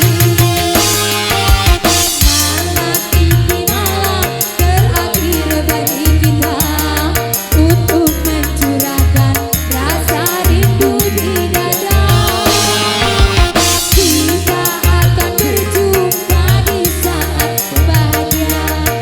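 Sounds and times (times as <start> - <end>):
bending keyboard melody: 0.0 - 17.2
repeating bass: 0.0 - 19.0
tabla-like drums: 0.0 - 19.0.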